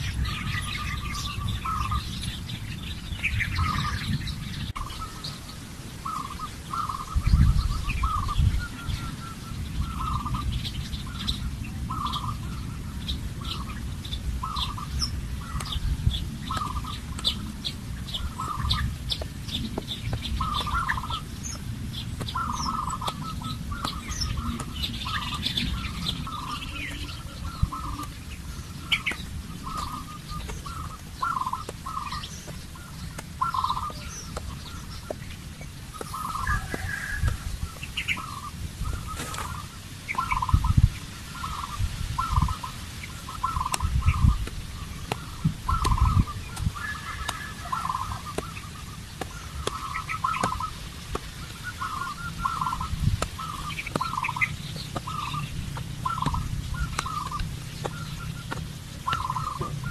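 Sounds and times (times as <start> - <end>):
birds squawking: 0.0 - 59.9
higher bird chirps: 0.0 - 59.9
low rumbling thumps: 9.7 - 42.6, 43.2 - 59.9.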